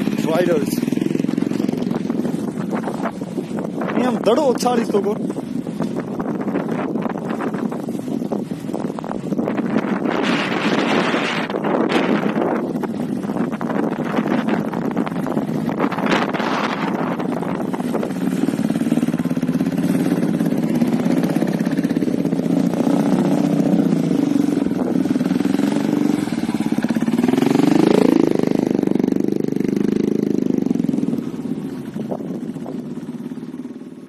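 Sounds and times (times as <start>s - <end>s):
motorcycle engine revving: 0.0s - 34.0s
motorcycle engines running: 0.0s - 34.0s.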